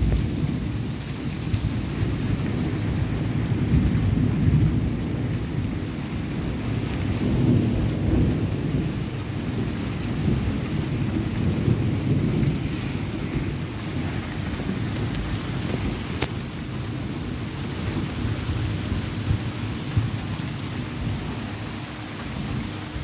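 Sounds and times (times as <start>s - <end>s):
rain falling steadily: 0.0s - 23.0s
rolling rumble of thunder: 0.0s - 23.0s.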